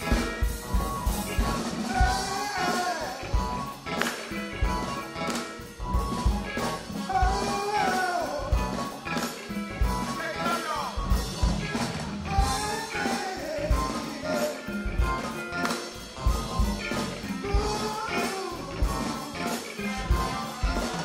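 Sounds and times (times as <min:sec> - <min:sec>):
sliding lead melody: 0:00.0 - 0:21.0
soul band playing: 0:00.0 - 0:21.0.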